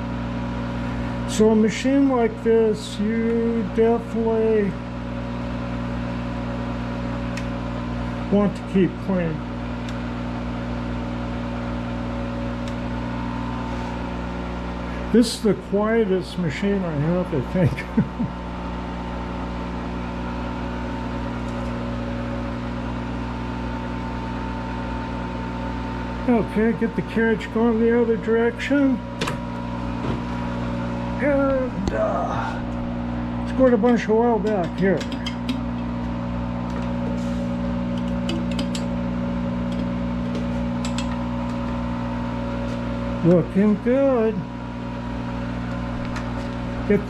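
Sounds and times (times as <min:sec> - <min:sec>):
lathe running with mechanical hum: 0:00.0 - 0:47.0.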